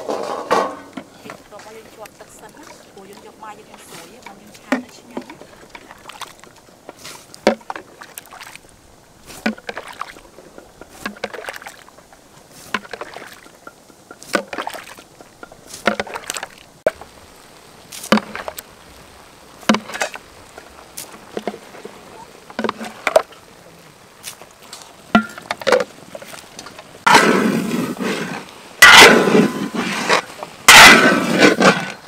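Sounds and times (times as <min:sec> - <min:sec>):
water sloshing: 0:00.0 - 0:32.0.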